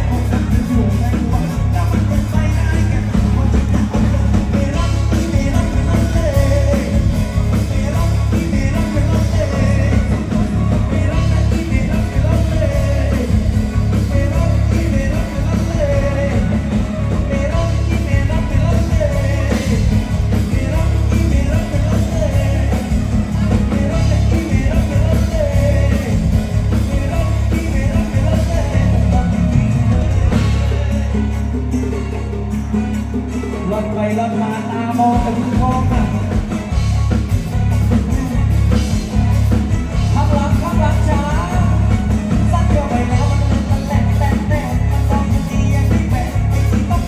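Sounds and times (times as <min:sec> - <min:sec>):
live band music: 0:00.0 - 0:47.0
steady bass: 0:00.0 - 0:47.0.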